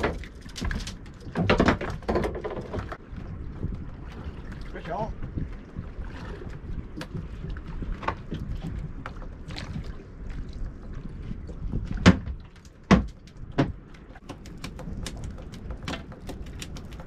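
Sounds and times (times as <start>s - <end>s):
water around boat: 0.0s - 17.0s
wind: 0.0s - 17.0s.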